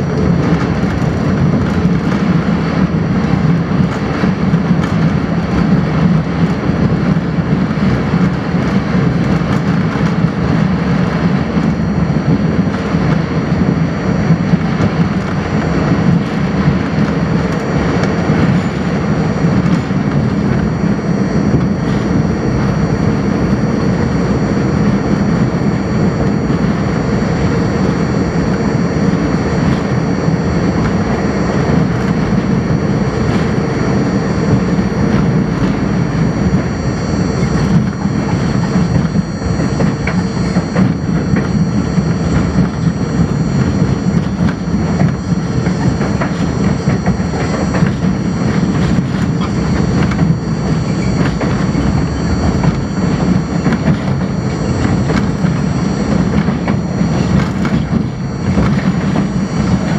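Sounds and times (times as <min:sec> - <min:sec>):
high whines: 0:00.0 - 0:59.9
steady hum: 0:00.0 - 0:59.9
train wheels rumbling on rails: 0:00.0 - 0:59.9.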